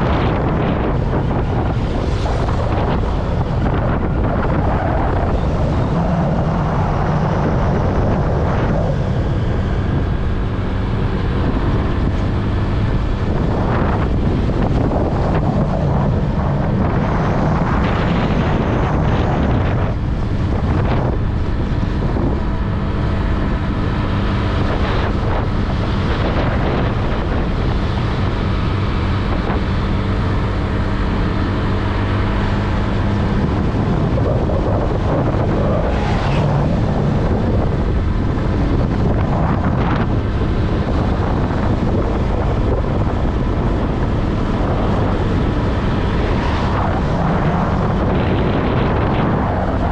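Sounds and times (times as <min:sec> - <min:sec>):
scooter engine hum: 0:00.0 - 0:49.9
wind buffeting microphone: 0:00.0 - 0:49.9.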